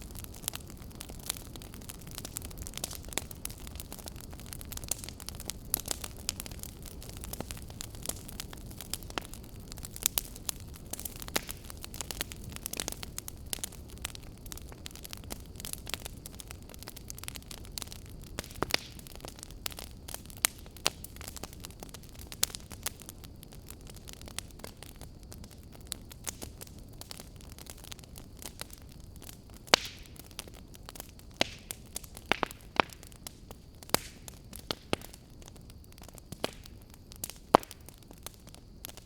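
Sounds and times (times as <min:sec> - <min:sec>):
low rush of burning: 0:00.0 - 0:39.0
wood fire crackling and popping: 0:00.0 - 0:39.0.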